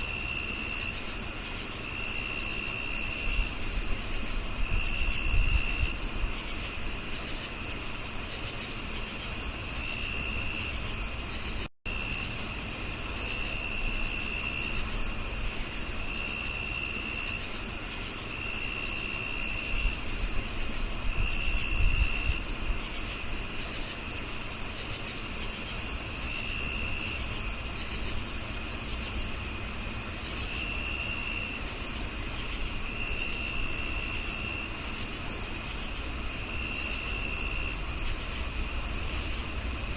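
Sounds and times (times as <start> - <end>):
cricket pulsed chirp: 0.0 - 39.9
crickets high trill: 0.0 - 39.9
lower cricket trill: 0.0 - 39.9.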